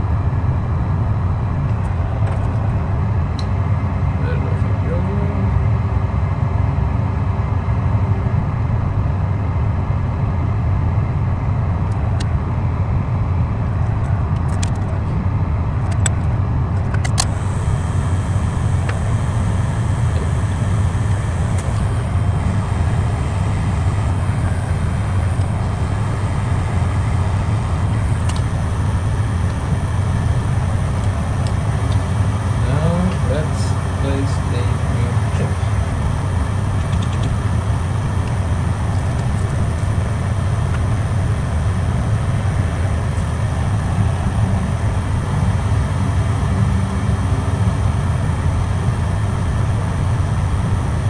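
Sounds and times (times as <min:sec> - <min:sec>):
low rumbling blower: 0:00.0 - 0:51.0.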